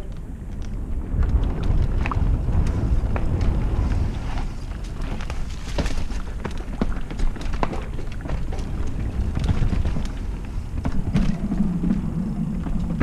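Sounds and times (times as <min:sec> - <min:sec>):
bike clicks and rattles: 0:00.0 - 0:13.0
bike tyre noise on dirt: 0:00.0 - 0:13.0
wind rumbling on microphone: 0:00.0 - 0:13.0.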